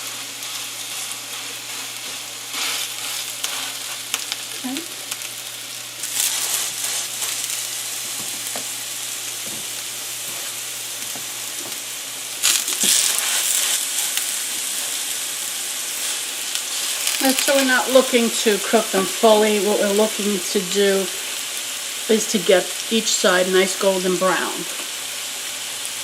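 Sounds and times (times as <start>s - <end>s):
patties sizzling in a pan: 0.0s - 26.0s.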